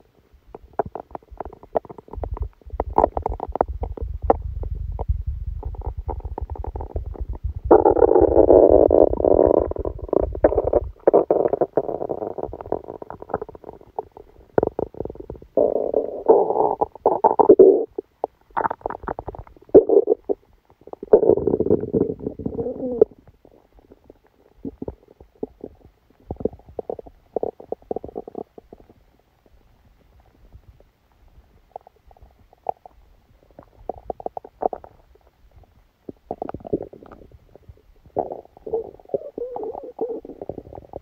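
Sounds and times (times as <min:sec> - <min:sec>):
stomach gurgling: 0:00.0 - 0:41.0.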